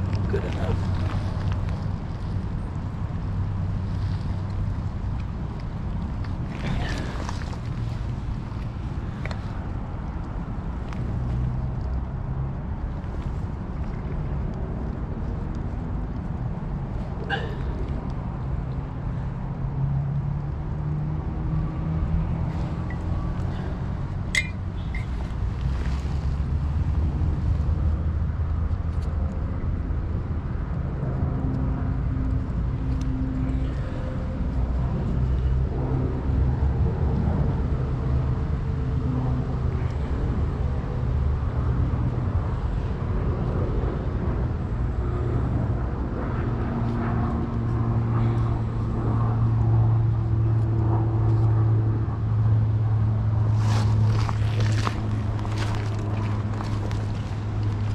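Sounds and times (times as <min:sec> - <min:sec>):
low engine drone: 0:00.0 - 0:28.7, 0:29.3 - 0:57.9.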